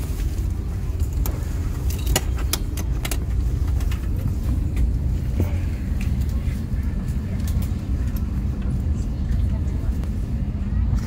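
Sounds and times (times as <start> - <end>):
cabin ventilation rumble: 0.0 - 11.0.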